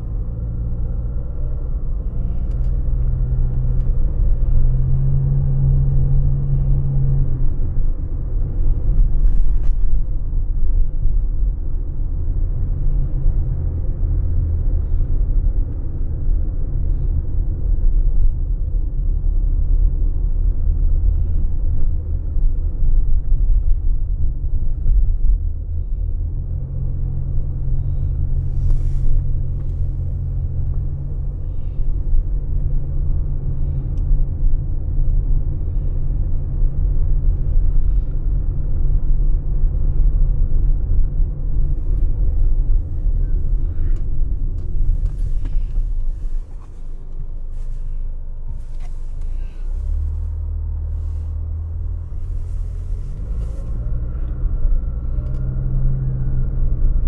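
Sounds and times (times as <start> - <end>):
car interior road noise: 0.0 - 57.0.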